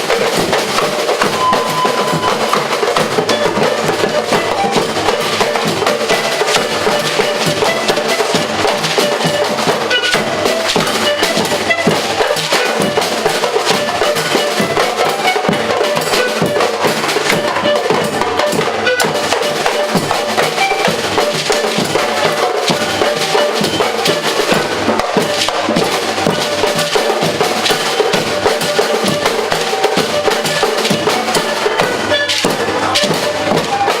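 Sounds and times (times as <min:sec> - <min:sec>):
drum group playing: 0:00.0 - 0:34.0.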